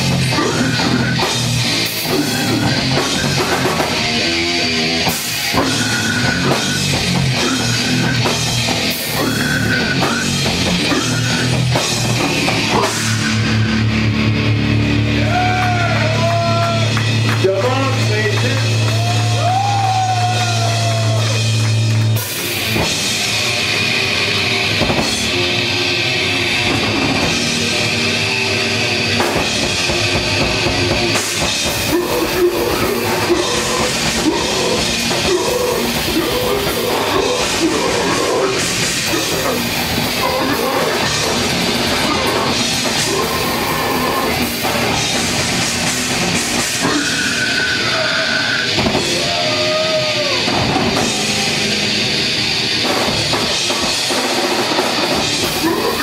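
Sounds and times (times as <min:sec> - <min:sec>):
drum kit: 0:00.0 - 0:56.0
electric guitars: 0:00.0 - 0:56.0
heavy rock band playing: 0:00.0 - 0:56.0.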